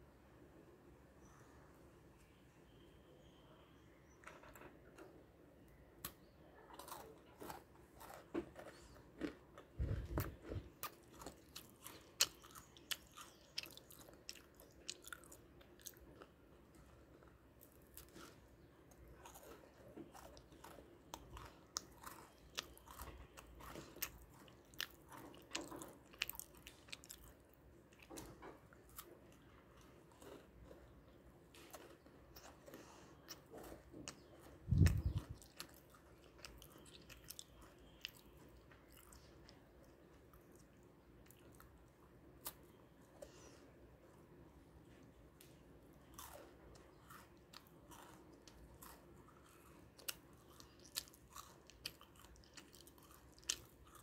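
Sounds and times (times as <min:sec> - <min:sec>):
person chewing crunchy cookies: 0:04.9 - 0:54.0.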